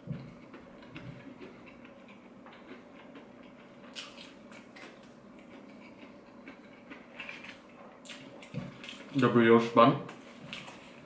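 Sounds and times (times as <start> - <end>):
faint steady hum: 0.0 - 11.0
chewing crispy food: 0.1 - 9.4, 10.1 - 11.0.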